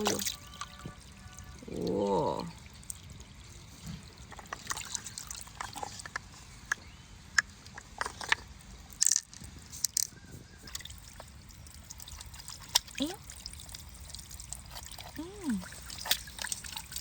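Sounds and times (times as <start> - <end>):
water dripping and trickling: 0.0 - 17.0.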